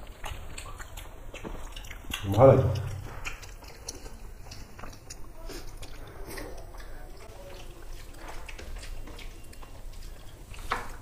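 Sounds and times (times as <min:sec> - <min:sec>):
wet squishing of hands mixing food: 0:00.0 - 0:11.0.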